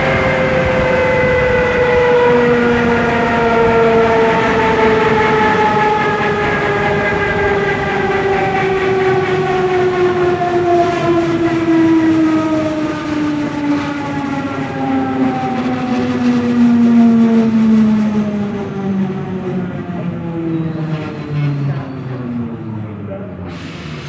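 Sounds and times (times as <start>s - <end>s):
electric train drive whining: 0.0s - 24.0s
train running rumble: 0.0s - 24.0s.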